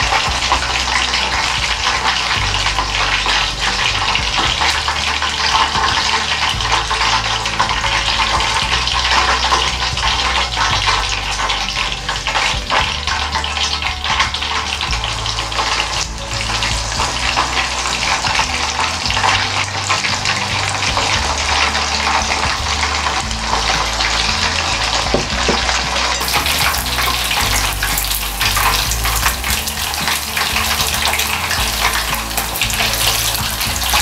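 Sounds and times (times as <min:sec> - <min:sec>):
chicken deep-frying in oil: 0:00.0 - 0:34.0.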